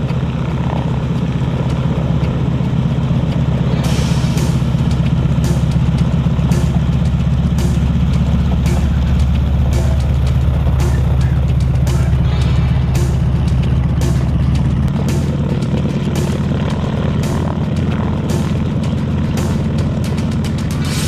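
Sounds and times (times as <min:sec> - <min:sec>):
propeller plane engine running: 0:00.0 - 0:21.0.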